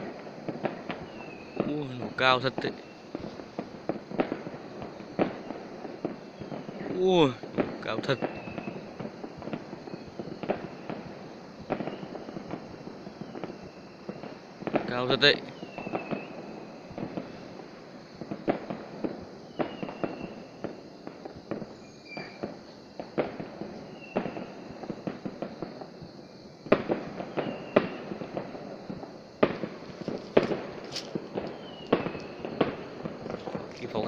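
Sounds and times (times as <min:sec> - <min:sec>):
distant fireworks bangs: 0:00.0 - 0:34.0.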